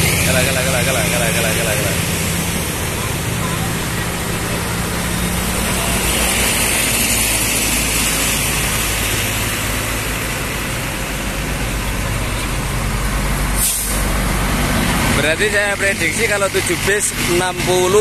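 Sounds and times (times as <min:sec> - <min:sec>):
bus diesel engines humming: 0:00.0 - 0:18.0
road noise: 0:00.0 - 0:18.0.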